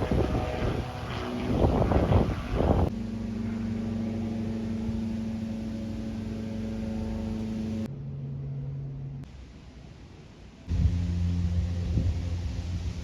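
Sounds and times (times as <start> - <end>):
machine hum: 0.0 - 9.6, 10.6 - 13.0.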